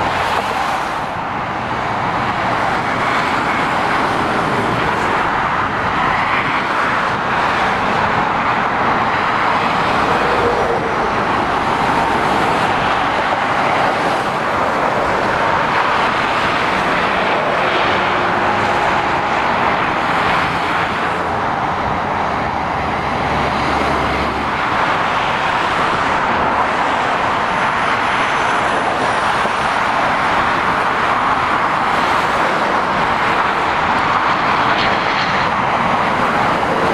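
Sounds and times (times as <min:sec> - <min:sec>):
lorries and cars passing: 0:00.0 - 0:36.9.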